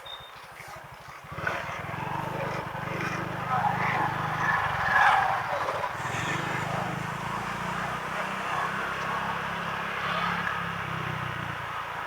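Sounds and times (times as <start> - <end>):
wind and road noise: 0.0 - 12.0
scooter engine running: 0.5 - 12.0.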